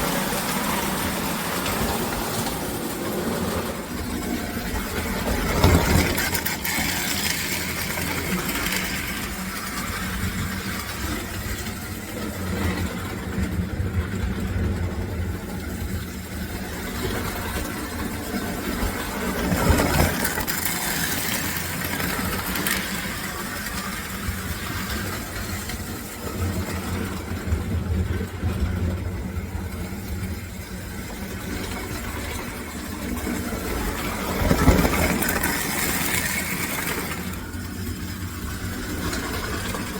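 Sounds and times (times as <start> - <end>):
toy train motor hum: 0.0 - 39.9
wheel rumble: 0.0 - 39.9.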